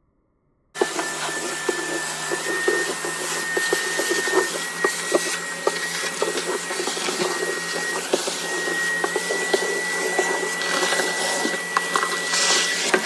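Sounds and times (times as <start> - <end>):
vacuum cleaner running: 0.8 - 13.0.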